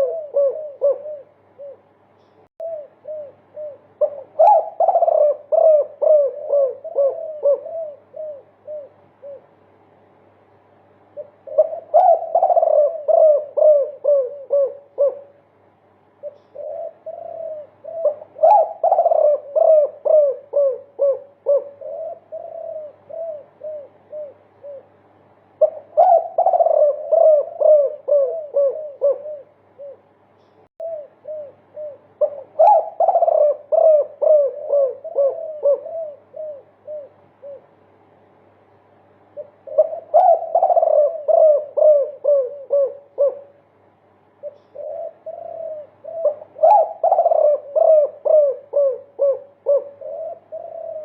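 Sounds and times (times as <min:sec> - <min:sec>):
dove cooing: 0:00.0 - 0:09.7, 0:11.1 - 0:15.5, 0:16.2 - 0:30.2, 0:30.8 - 0:37.9, 0:39.2 - 0:51.0.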